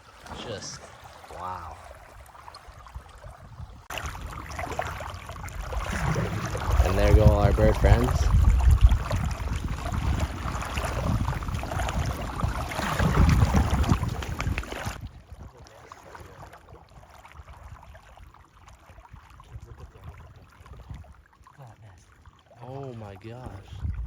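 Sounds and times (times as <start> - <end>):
water sloshing and splashing: 0.0 - 24.0
wind buffeting microphone: 1.4 - 21.3, 23.0 - 24.0.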